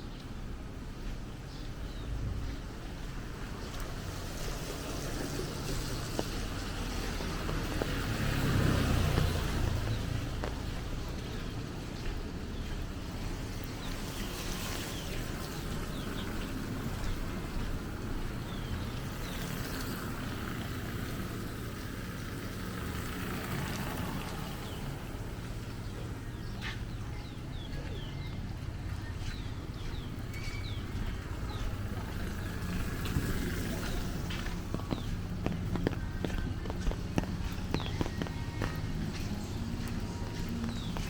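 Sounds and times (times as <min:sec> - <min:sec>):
low street rumble: 0:00.0 - 0:41.0
small birds chirping: 0:00.0 - 0:41.0.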